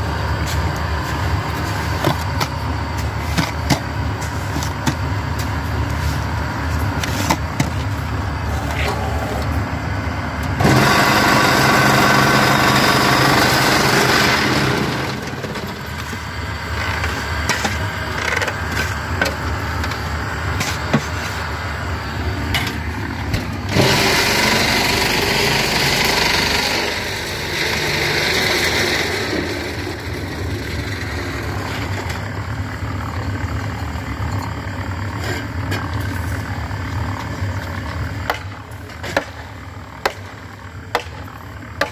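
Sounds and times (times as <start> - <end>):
machinery motor hum: 0.0 - 41.9.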